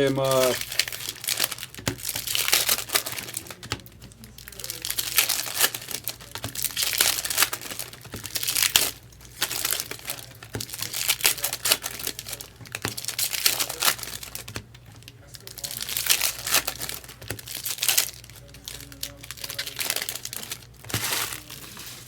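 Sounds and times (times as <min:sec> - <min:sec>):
foil wrappers crinkling and tearing: 0:00.0 - 0:22.0.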